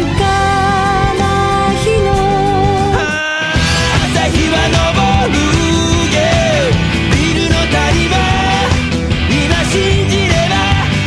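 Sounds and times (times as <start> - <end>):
rock song with full band: 0.0 - 11.0.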